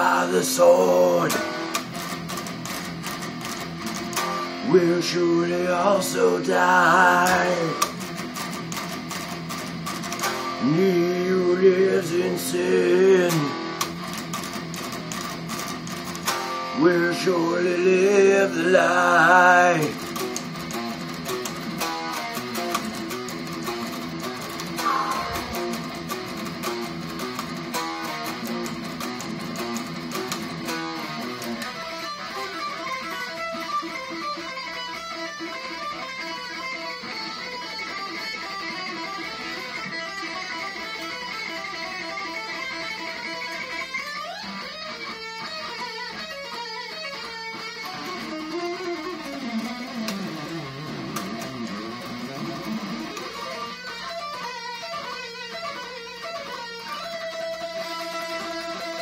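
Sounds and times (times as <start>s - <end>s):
electric guitar playing: 0.0s - 59.0s.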